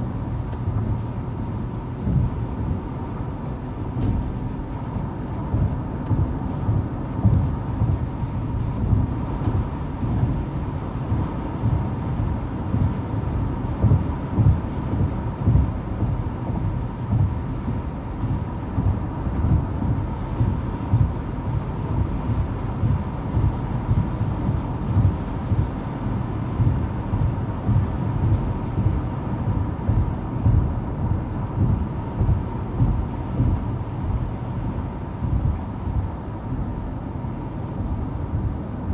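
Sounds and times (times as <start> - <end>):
road and engine rumble in car: 0.0 - 38.9.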